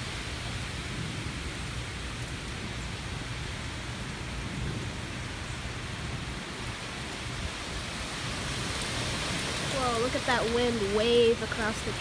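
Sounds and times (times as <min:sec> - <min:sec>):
rain: 0:00.0 - 0:12.0
wind rushing through trees: 0:00.0 - 0:12.0.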